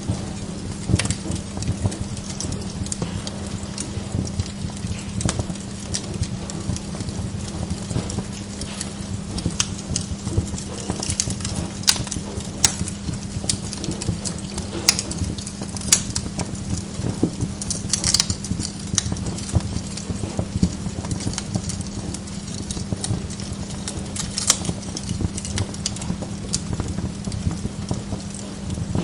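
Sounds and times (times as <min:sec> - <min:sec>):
steady low hum: 0:00.0 - 0:29.0
wood fire crackling: 0:00.0 - 0:29.0.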